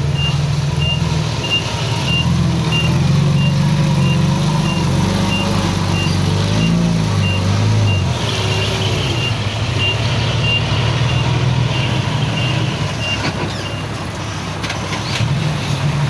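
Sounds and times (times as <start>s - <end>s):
reversing alarm beeping: 0.2s - 13.8s.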